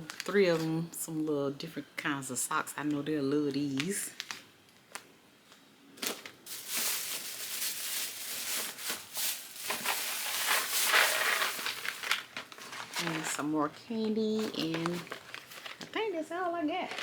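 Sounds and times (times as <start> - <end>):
packaging crinkling: 0.0 - 0.8, 3.5 - 16.0, 16.7 - 17.0.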